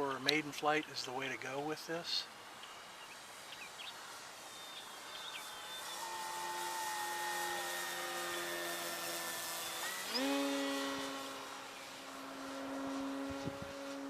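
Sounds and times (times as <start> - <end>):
model airplane motor whining: 2.6 - 14.0.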